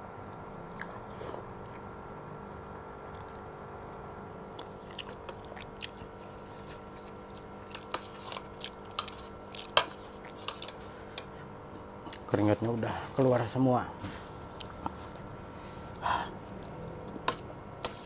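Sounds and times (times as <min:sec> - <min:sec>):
faint steady hum: 0:00.0 - 0:18.0
person chewing noodles: 0:00.3 - 0:12.4, 0:14.4 - 0:18.0.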